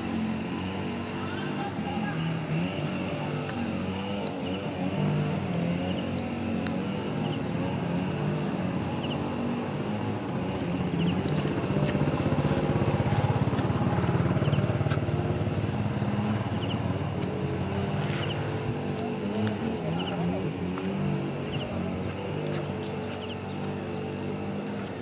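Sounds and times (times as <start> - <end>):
motor engine humming: 0.0 - 25.0.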